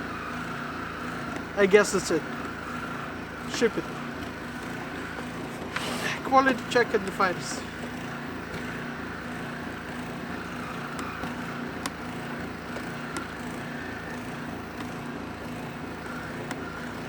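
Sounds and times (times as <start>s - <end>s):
motor drone: 0.0s - 17.0s.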